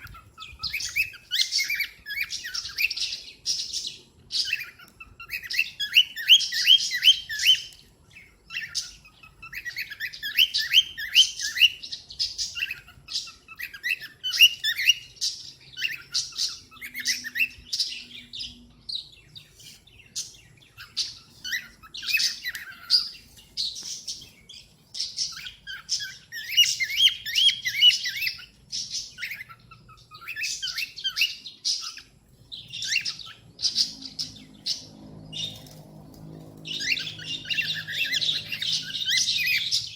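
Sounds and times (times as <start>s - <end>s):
cockatiel chirping: 0.0s - 35.8s, 36.6s - 39.9s.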